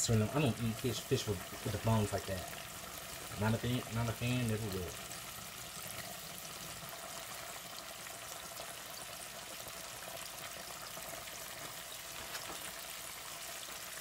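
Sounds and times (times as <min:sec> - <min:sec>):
oil sizzling and bubbling: 0:00.0 - 0:14.0.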